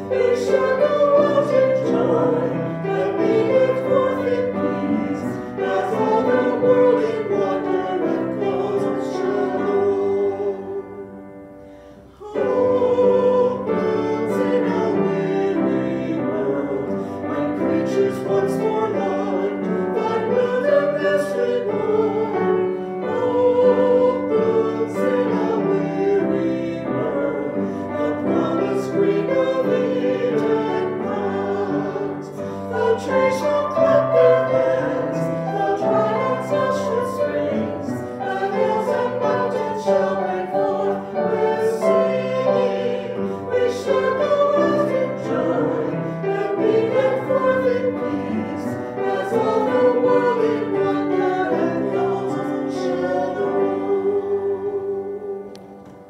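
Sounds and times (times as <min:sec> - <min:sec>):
group singing a hymn in harmony: 0:00.0 - 0:56.0.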